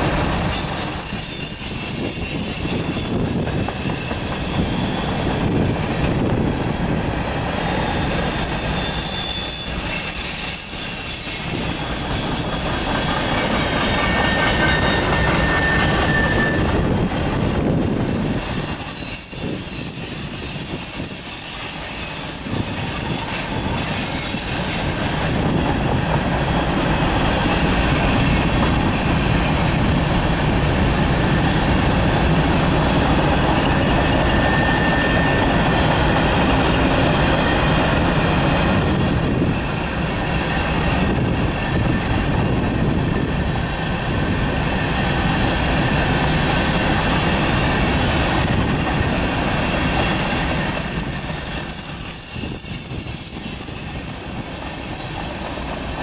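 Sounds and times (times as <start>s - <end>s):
high steady squeal: 0.0s - 5.7s, 7.2s - 29.9s, 33.4s - 42.1s, 46.2s - 56.0s
train wheels rumbling on rail: 0.0s - 56.0s.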